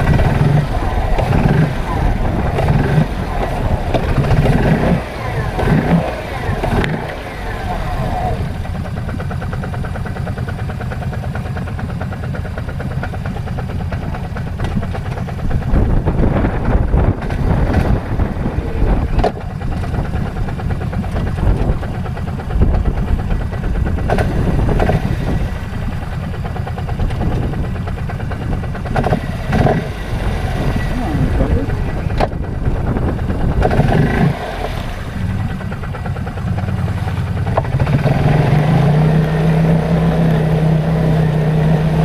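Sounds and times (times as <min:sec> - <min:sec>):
atv engine running: 0:00.0 - 0:42.0.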